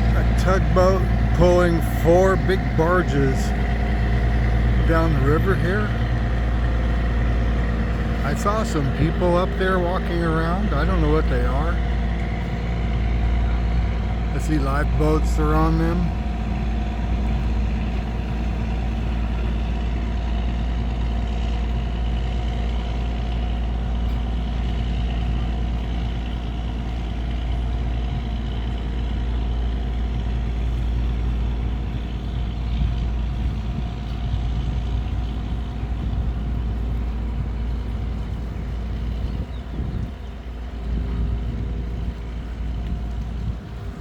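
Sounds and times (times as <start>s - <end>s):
boat engine rumbling: 0.0s - 44.0s.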